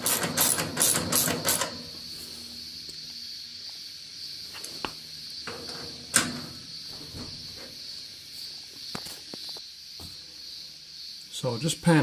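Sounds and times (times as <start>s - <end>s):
high insect chirring: 0.0s - 12.0s.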